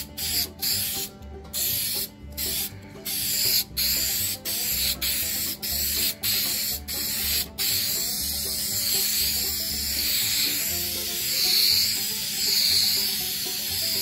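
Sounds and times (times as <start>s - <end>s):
aerosol spray hissing: 0.0s - 14.0s.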